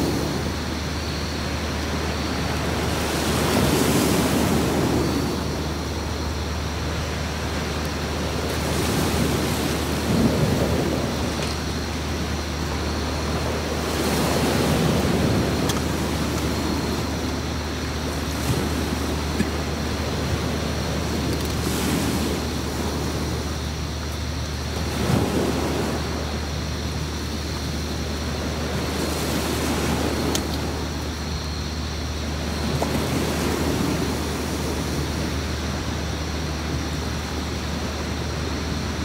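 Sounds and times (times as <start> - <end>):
sea waves breaking on beach: 0.0 - 39.0.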